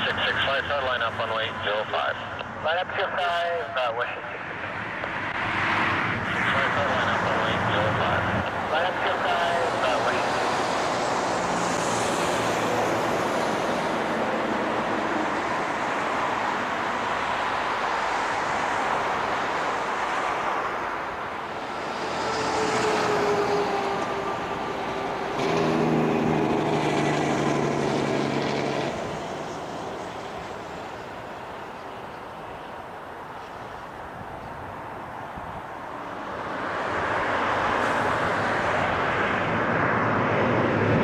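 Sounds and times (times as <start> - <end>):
jet engine whine: 0.0 - 41.0
jet engines running loud: 0.0 - 41.0.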